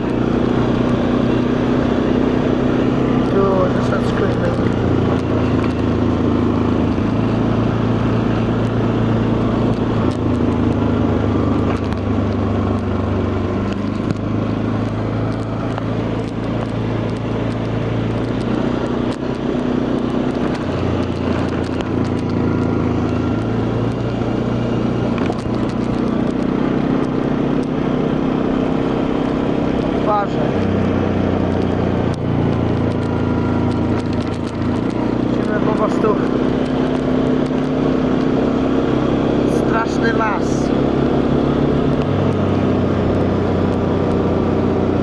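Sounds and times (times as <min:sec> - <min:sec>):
quad bike engine running: 0:00.0 - 0:45.0.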